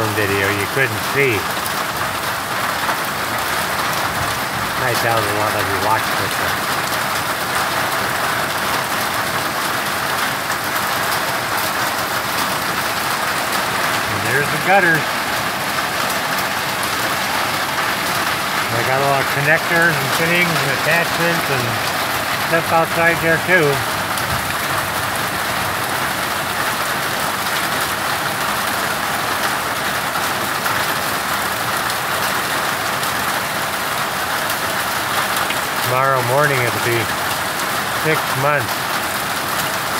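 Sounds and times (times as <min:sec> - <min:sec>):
rain and hail pattering: 0:00.0 - 0:39.9.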